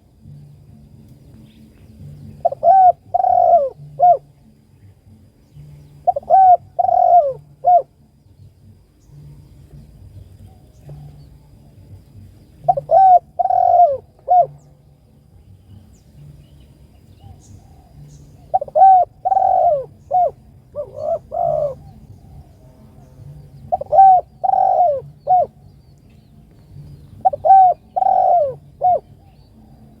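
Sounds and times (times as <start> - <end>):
dove cooing: 1.9 - 4.6, 5.6 - 8.1, 9.2 - 14.9, 15.8 - 30.0.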